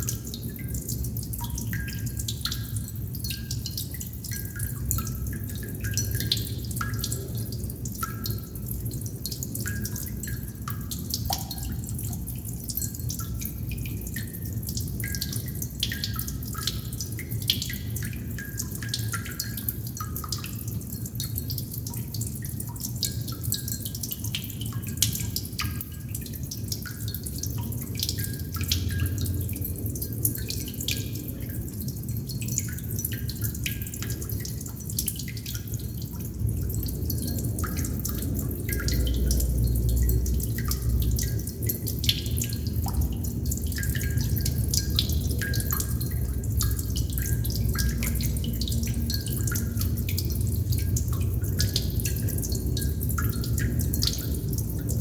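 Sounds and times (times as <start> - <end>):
water droplets dripping: 0.0 - 55.0.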